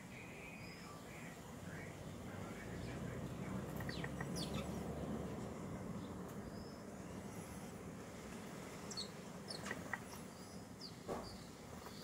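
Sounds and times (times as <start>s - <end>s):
low background hum: 0.0s - 12.0s
songbirds chirping: 0.0s - 12.0s.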